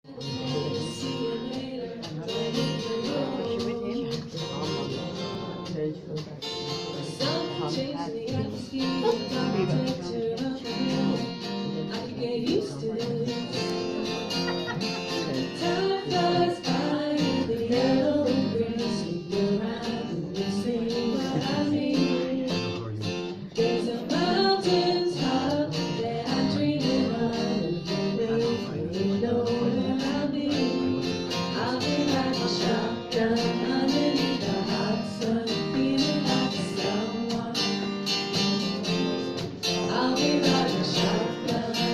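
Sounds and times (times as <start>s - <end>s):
acoustic guitar strumming: 0.1s - 41.9s.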